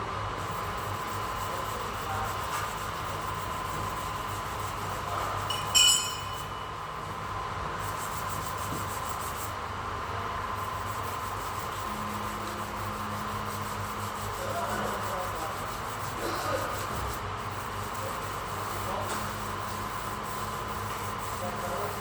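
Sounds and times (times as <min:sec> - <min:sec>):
scratchy sanding: 0:00.4 - 0:05.7, 0:07.7 - 0:09.6, 0:10.4 - 0:22.0.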